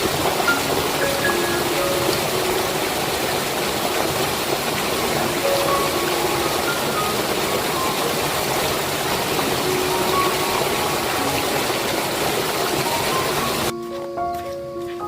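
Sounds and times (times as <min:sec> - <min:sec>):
flowing water rushing: 0:00.0 - 0:14.8.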